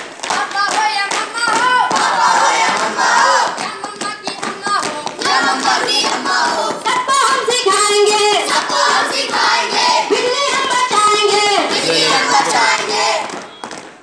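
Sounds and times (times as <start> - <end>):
hands clapping: 0.0 - 10.8, 11.8 - 14.0
voices singing: 0.3 - 13.6.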